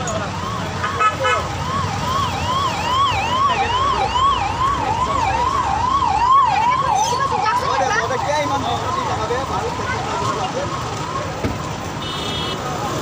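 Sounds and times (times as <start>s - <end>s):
low rumble of road traffic: 0.0s - 13.0s
electronic siren yelping: 0.4s - 11.3s.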